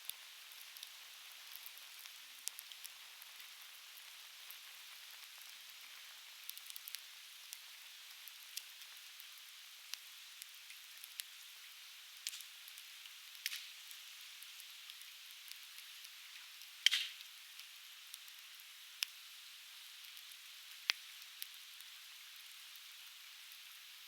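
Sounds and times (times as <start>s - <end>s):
firewood crackling and popping: 0.0s - 11.4s, 12.0s - 19.2s, 20.0s - 23.8s.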